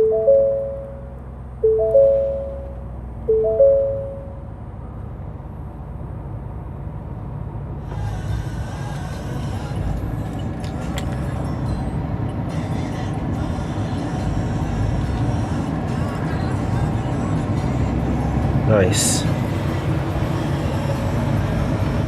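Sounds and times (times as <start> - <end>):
engine idling inside cab: 0.0 - 5.9, 7.6 - 22.0.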